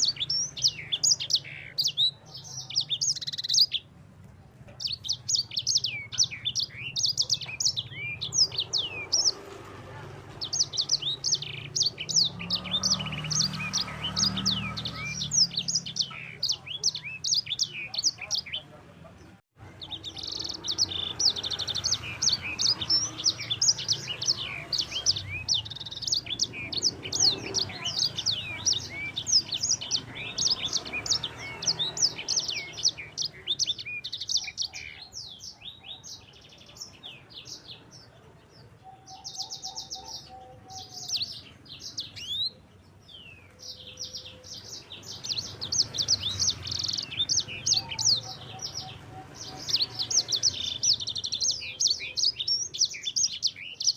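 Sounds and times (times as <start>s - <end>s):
songbird singing chirps and trills: 0.0s - 53.9s.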